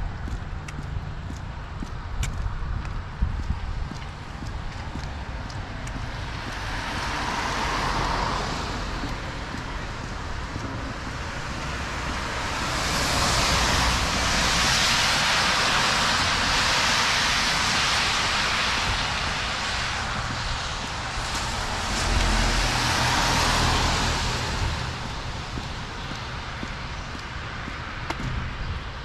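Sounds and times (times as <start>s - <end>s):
cars passing on wet road: 0.0s - 29.0s.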